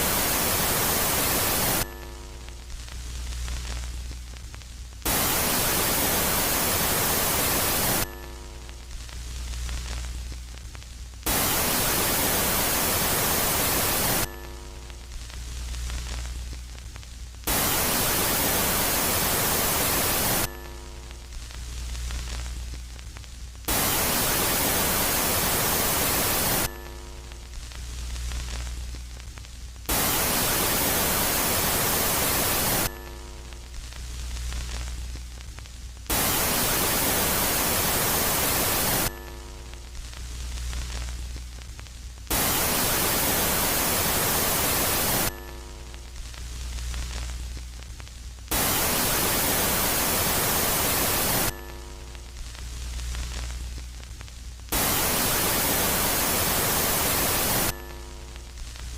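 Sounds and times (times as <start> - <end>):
loud white noise hiss: 0.0 - 58.9.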